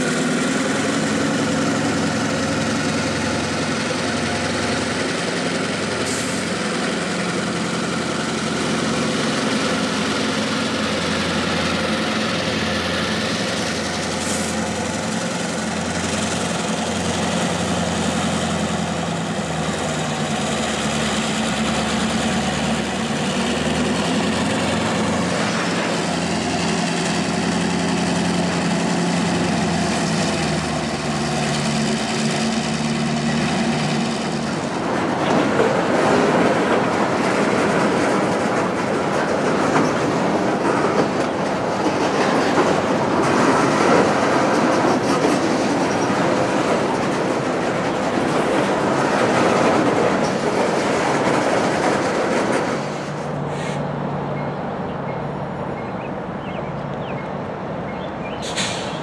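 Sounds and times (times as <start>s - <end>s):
wheels clicking over rail joints: 0.0s - 53.7s
locomotive engines droning: 0.0s - 59.0s.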